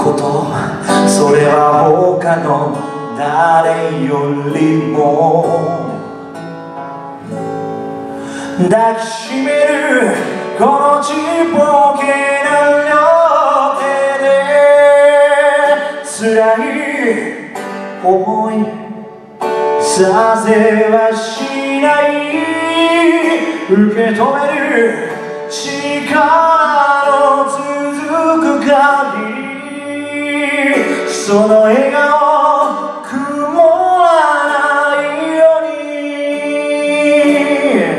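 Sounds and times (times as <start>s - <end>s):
man singing into a microphone: 0.0s - 6.5s, 8.2s - 37.9s
acoustic guitar: 0.0s - 37.9s.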